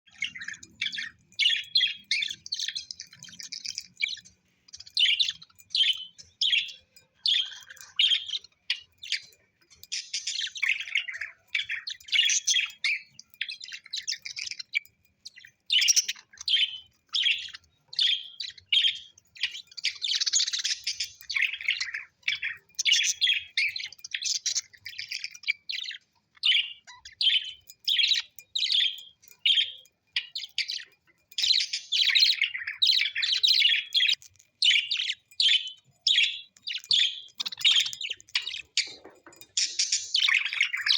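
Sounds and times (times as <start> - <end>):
parrots chirping and chattering: 0.0 - 40.9.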